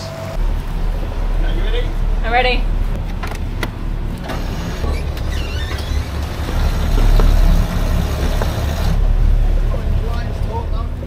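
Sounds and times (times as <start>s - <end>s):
winch mechanical drone: 0.0s - 11.0s.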